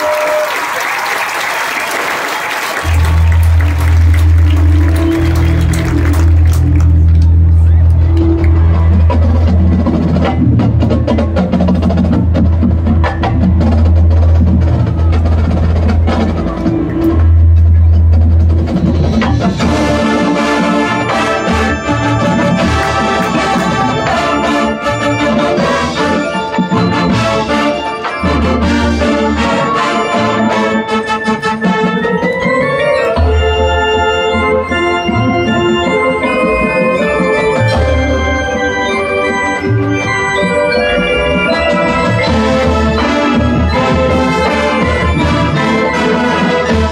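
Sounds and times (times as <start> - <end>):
marching band playing: 0.0 - 46.9
sharp percussion hits: 8.2 - 46.9.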